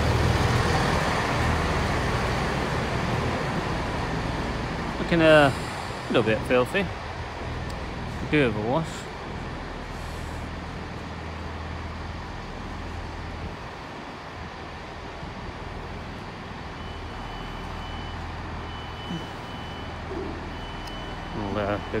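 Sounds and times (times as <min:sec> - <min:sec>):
diesel train engine hum: 0:00.0 - 0:22.0.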